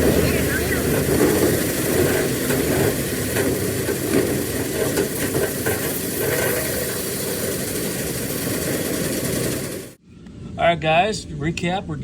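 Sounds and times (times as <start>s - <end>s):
duct-cleaning machine running: 0.0s - 10.0s.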